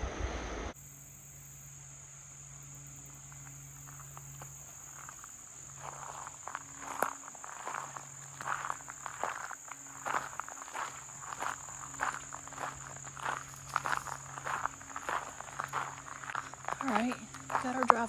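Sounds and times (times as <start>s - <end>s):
crickets and insects chirring: 0.7s - 18.0s
footsteps: 3.3s - 18.0s.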